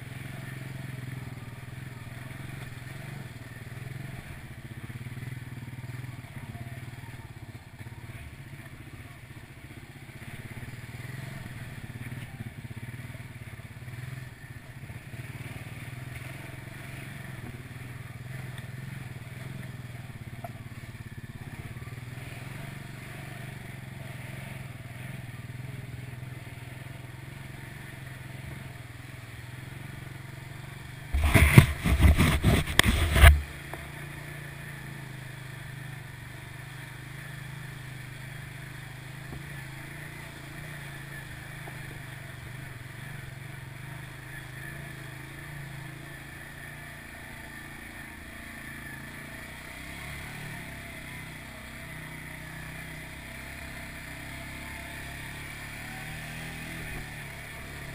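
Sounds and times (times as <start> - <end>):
quad bike engine running: 0.0 - 57.9.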